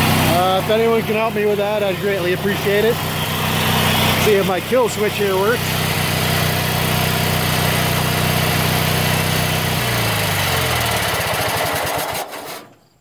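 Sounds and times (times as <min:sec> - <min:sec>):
tractor engine running and winding down: 0:00.0 - 0:12.9.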